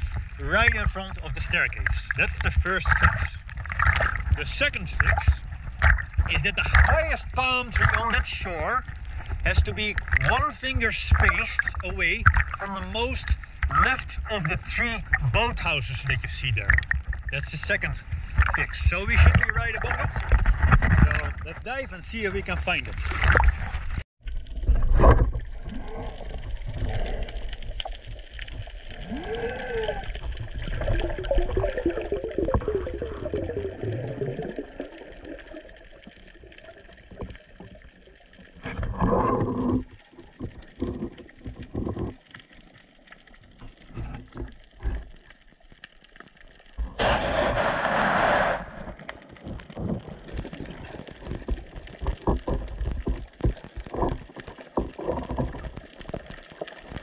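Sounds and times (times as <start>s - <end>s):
low underwater rumble: 0.0s - 57.0s.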